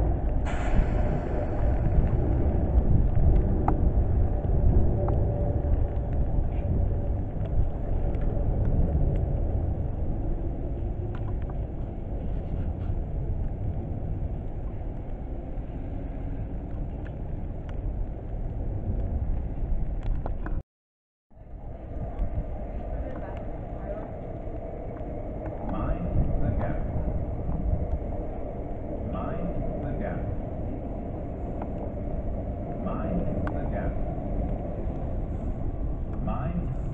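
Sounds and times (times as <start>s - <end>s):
train rumbling on track: 0.0s - 19.8s, 21.3s - 36.9s.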